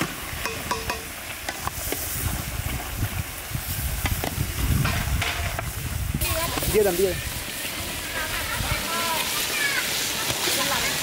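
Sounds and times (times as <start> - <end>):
sizzling hiss of frying: 0.0 - 11.0.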